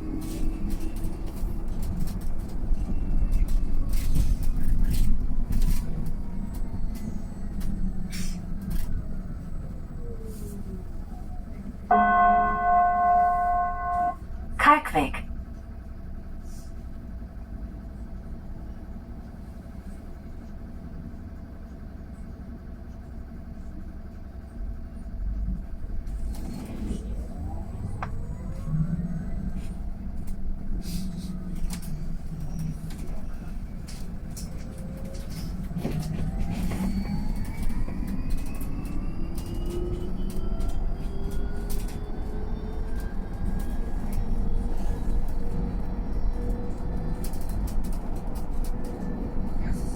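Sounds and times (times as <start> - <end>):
electric bus motor whine: 0.0 - 14.6, 15.3 - 49.9
road rumble: 0.0 - 49.9.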